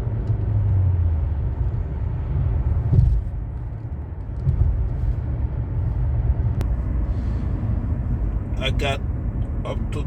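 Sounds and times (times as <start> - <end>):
road rumble inside car: 0.0 - 10.0.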